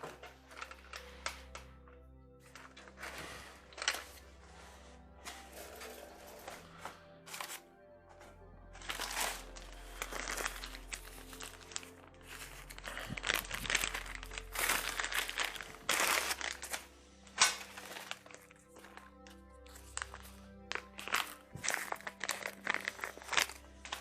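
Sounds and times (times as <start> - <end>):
soft background music: 0.0 - 24.0
scraping and rustling handling: 2.4 - 7.6, 8.2 - 24.0.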